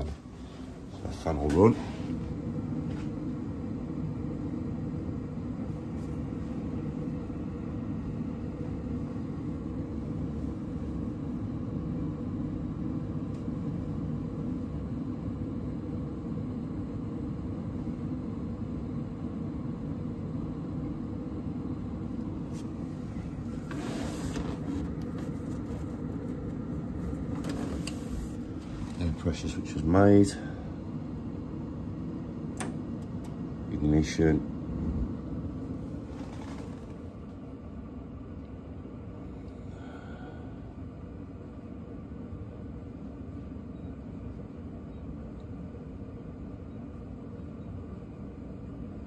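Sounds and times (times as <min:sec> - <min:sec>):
boiler fan humming: 0:00.0 - 0:49.0.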